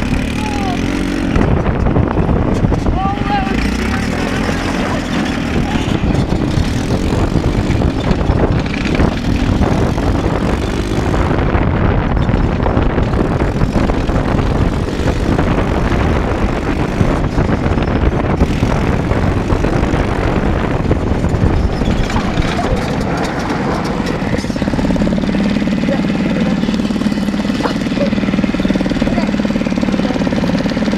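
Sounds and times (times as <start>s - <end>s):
go-kart engine running: 0.0s - 30.9s.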